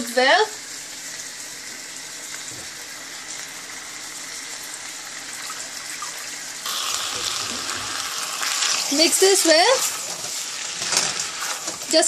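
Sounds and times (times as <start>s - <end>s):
wok sizzling: 0.0s - 12.0s.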